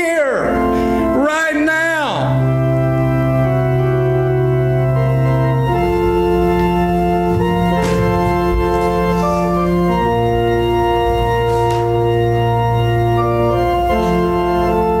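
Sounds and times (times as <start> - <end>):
organ playing held chords: 0.0 - 15.0.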